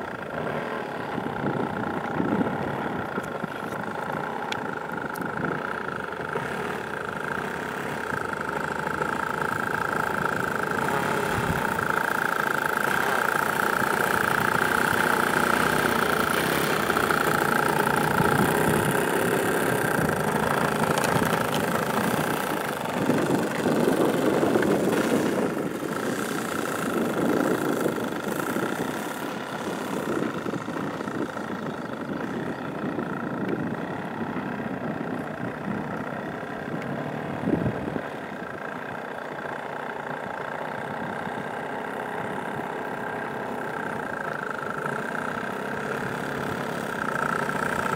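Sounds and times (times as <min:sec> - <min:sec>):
engine running steadily: 0:00.0 - 0:47.9.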